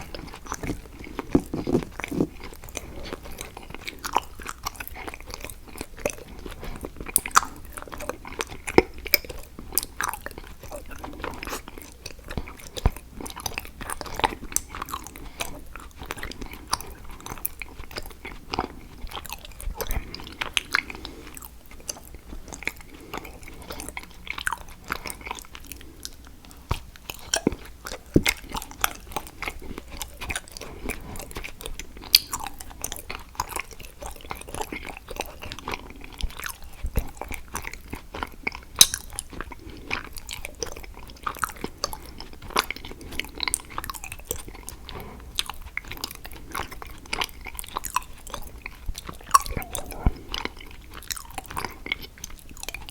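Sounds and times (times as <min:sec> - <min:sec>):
chocolate crunching and chewing: 0:00.0 - 0:52.9.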